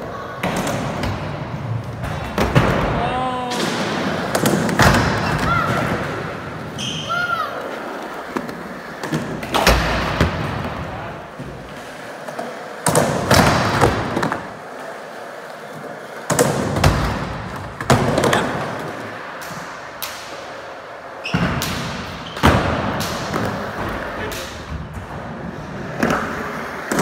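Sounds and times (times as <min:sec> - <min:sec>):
skateboard wheels rolling: 0:00.0 - 0:27.0.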